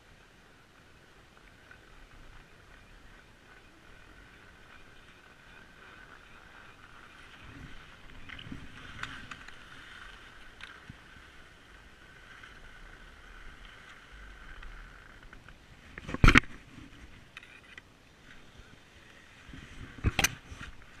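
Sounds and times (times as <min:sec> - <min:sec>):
skis sliding over snow: 0:00.0 - 0:17.3, 0:18.1 - 0:21.0
faint steady whine: 0:00.0 - 0:21.0.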